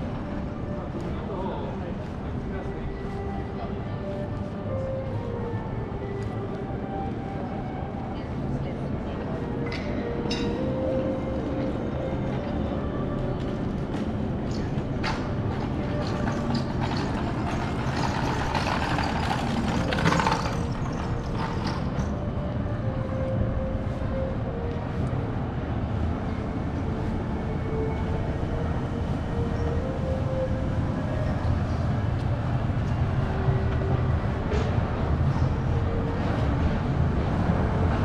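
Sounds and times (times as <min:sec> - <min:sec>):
large vehicle engine rumbling: 0:00.0 - 0:38.0.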